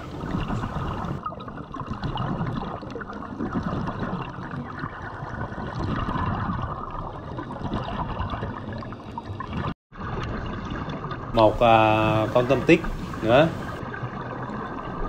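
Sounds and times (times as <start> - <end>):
muffled underwater rush: 0.0 - 15.0.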